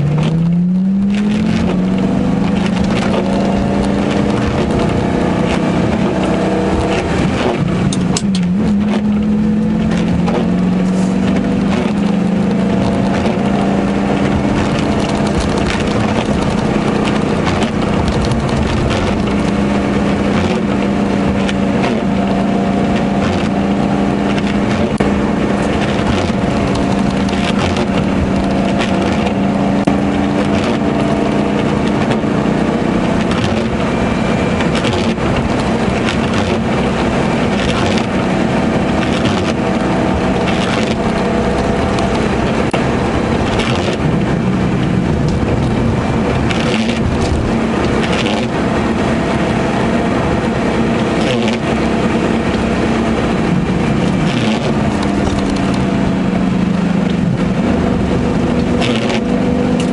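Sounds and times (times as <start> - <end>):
car engine cruising: 0.0 - 59.9
road noise on wet tarmac: 0.0 - 59.9.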